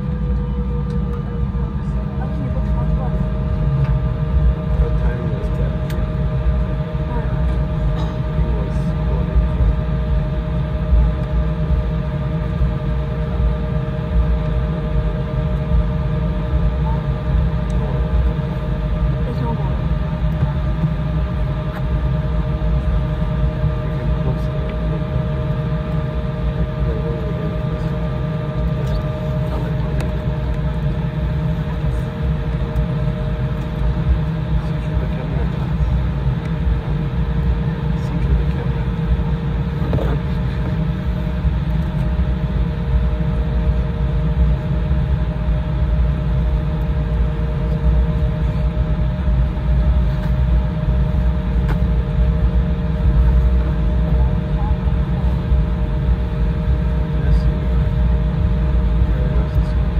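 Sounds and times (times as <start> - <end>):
airliner cabin rumble: 0.0 - 59.9
steady hums: 0.0 - 59.9.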